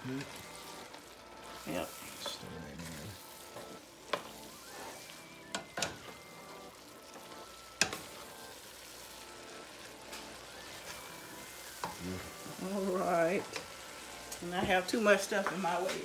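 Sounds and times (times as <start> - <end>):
noodles sizzling in a pot: 0.0 - 16.0.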